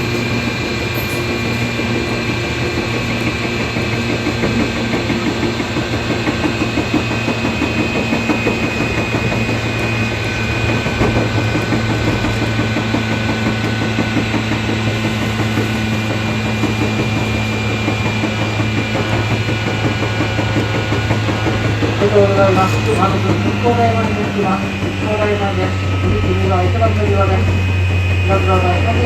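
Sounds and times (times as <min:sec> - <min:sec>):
train motors humming: 0:00.0 - 0:29.0.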